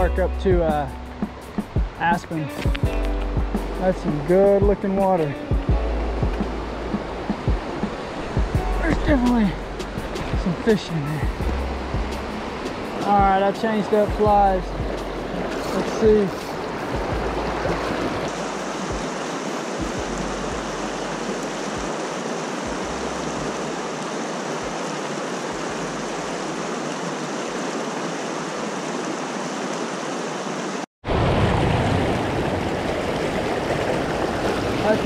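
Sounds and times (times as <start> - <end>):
river water rushing over rocks: 3.6 - 35.0.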